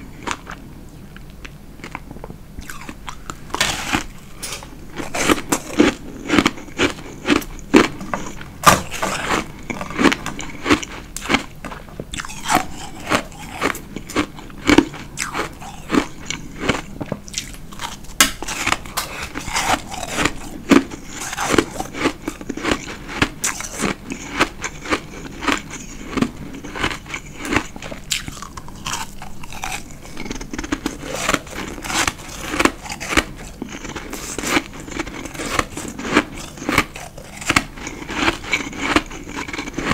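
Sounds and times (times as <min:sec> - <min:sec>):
ice being chewed: 0:02.6 - 0:39.9.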